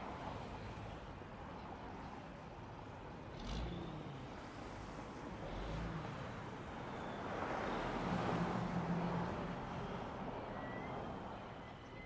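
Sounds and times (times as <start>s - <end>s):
road traffic tyre and engine noise: 0.0s - 12.0s.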